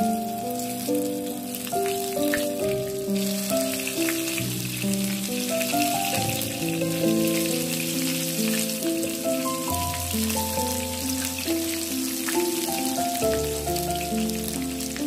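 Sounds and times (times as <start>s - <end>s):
batter sizzling in hot oil: 0.0s - 15.0s
slow background music: 0.0s - 15.0s.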